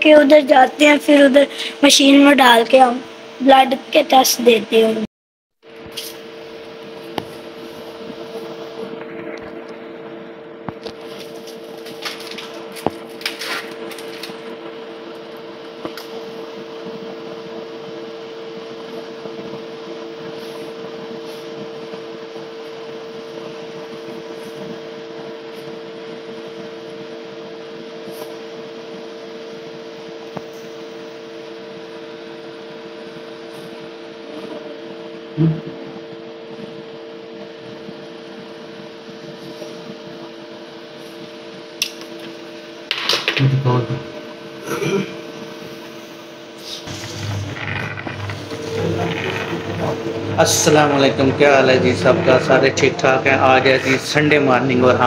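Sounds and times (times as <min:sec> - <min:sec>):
room machinery hum: 0:00.0 - 0:05.1, 0:05.7 - 0:55.0.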